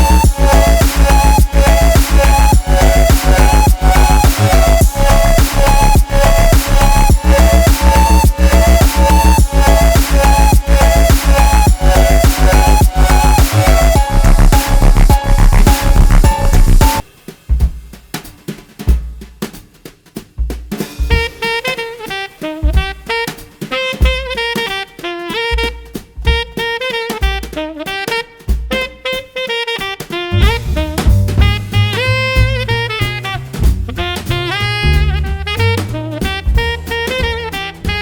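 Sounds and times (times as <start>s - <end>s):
instrumental music with drum beat: 0.0s - 38.0s.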